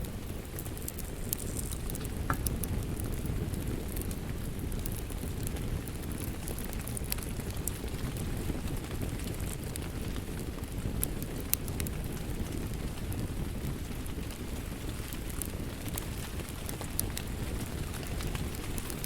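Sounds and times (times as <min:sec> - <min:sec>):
rain: 0:00.0 - 0:19.0
wood fire crackling and popping: 0:00.0 - 0:19.0.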